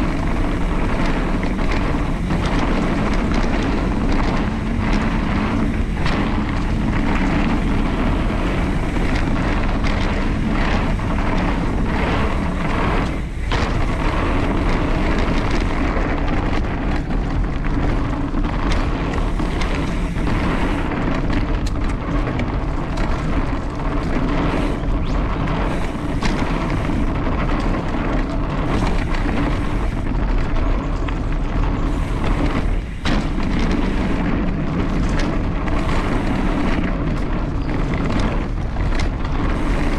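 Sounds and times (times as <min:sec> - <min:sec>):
bike knocking and rattling: 0:00.0 - 0:39.9
wind buffeting microphone: 0:00.0 - 0:39.9.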